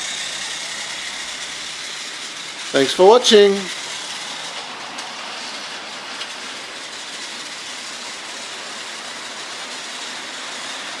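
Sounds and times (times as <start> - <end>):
toy steam engine running on track: 0.0 - 11.0.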